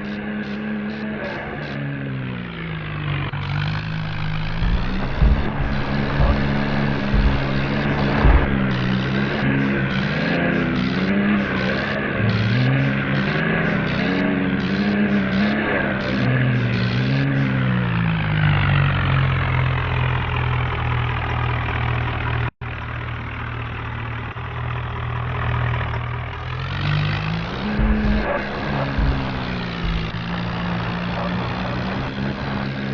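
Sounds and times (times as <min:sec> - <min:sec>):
vehicle engine revving: 0:00.0 - 0:22.5, 0:24.5 - 0:32.9.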